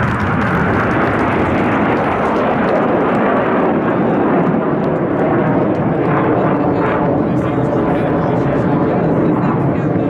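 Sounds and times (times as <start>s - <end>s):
jets flying overhead: 0.0s - 10.0s.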